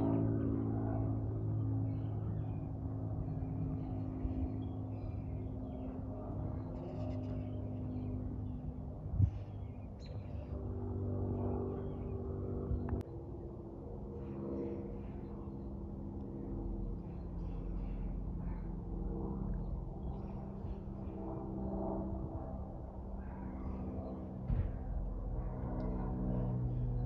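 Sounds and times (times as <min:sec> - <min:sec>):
aircraft engine drone: 0:00.0 - 0:27.0.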